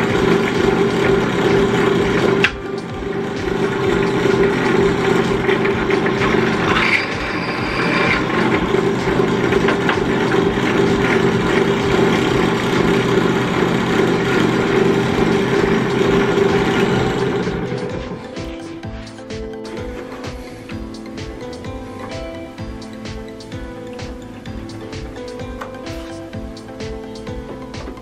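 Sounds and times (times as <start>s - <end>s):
workshop machine motor humming: 0.0s - 28.0s.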